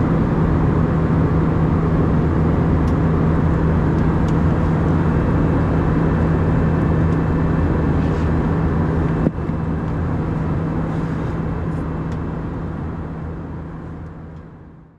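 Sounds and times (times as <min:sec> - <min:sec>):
airplane cabin engine drone: 0:00.0 - 0:14.9.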